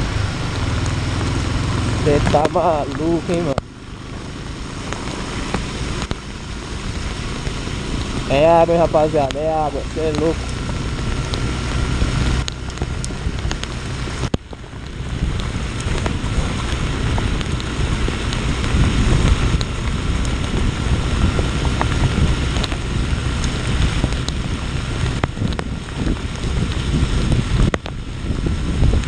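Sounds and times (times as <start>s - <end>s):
motorcycle engine: 0.0s - 29.0s
wind rushing over microphone: 0.0s - 29.0s.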